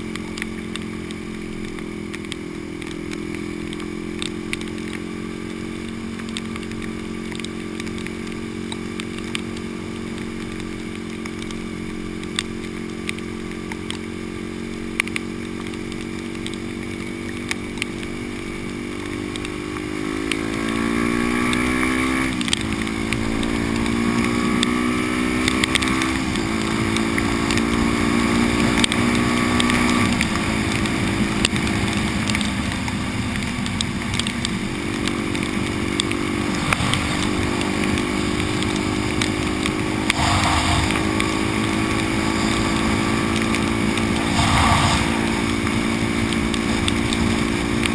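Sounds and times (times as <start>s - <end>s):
motorcycle engine accelerating: 0.0s - 47.9s
sharp ticks: 0.1s - 14.0s, 19.0s - 47.9s.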